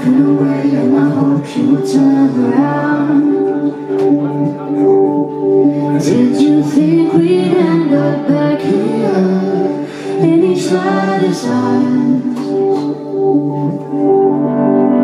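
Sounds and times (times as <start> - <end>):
man singing: 0.0 - 4.7, 5.8 - 13.8
sustained keyboard chords: 0.0 - 15.0
woman singing lead: 0.0 - 15.0.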